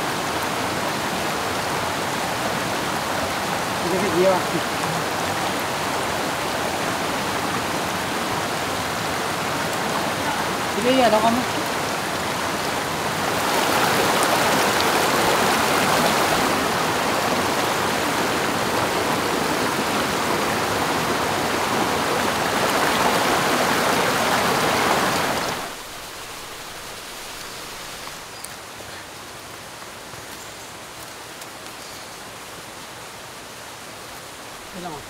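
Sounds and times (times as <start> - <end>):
distant water hiss: 0.0 - 35.0
stream rushing over stones: 0.0 - 35.0.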